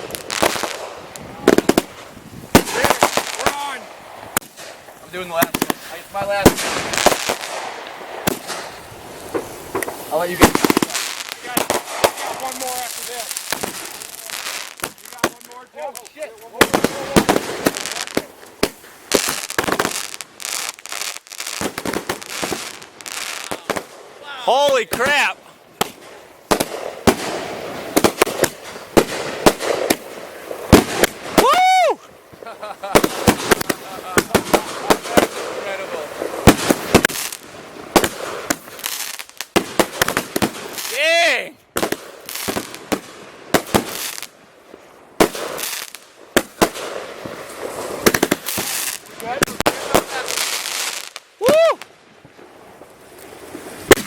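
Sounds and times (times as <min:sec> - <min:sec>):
firework bangs: 0:00.0 - 0:54.0
firework crackling: 0:00.0 - 0:54.0.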